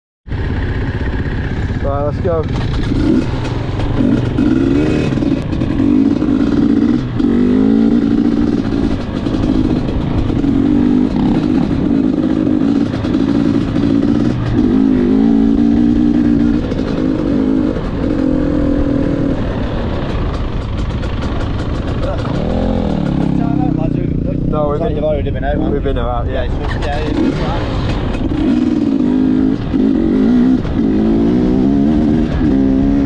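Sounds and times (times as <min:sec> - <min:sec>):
motorcycle engine revving: 0:00.3 - 0:33.0.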